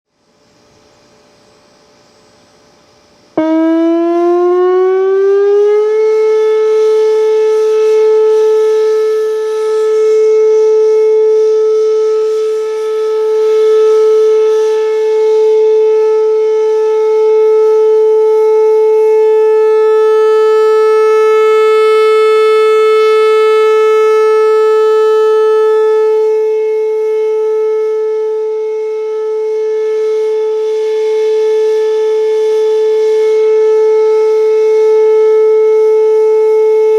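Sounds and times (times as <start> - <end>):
outdoor warning siren: 3.3 - 36.9.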